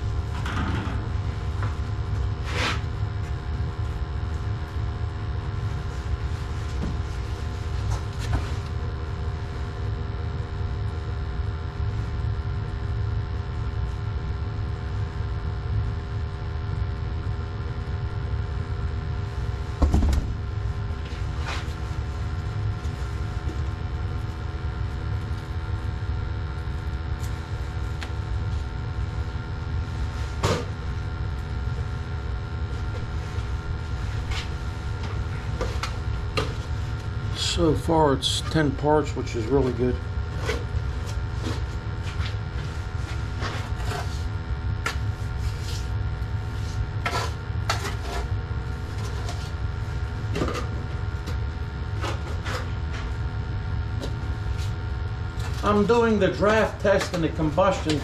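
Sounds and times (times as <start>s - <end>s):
gas burners rumbling: 0.0s - 58.0s
steady hum: 0.0s - 58.0s.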